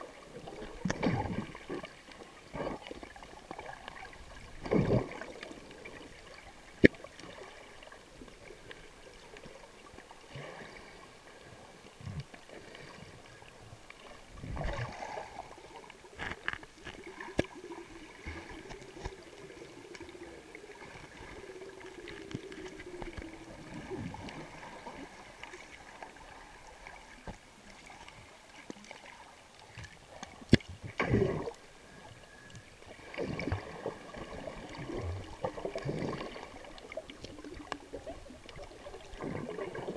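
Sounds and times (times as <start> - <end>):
muffled underwater water moving: 0.0 - 39.9.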